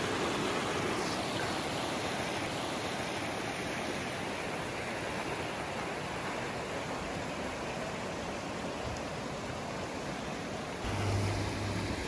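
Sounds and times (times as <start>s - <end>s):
stream water flowing over rocks: 0.0s - 12.0s.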